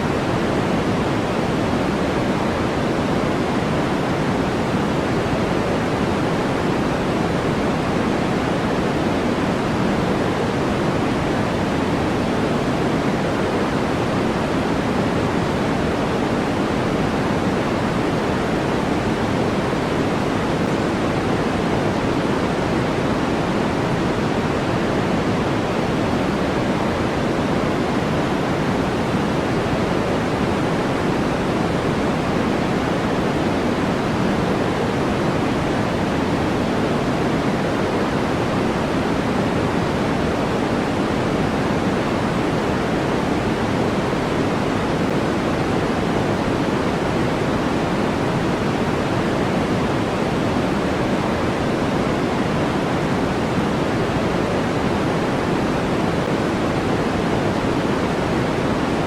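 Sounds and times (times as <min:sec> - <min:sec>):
continuous white noise hiss: 0:00.0 - 0:59.0.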